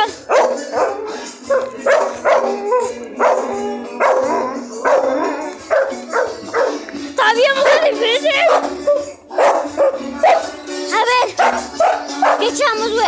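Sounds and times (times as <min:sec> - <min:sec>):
dog barking: 0:00.2 - 0:06.9, 0:07.6 - 0:10.6, 0:11.2 - 0:12.6.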